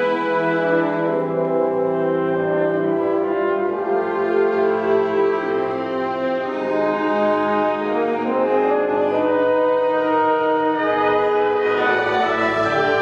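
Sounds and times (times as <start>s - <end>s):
brass ensemble playing chords: 0.0s - 13.0s.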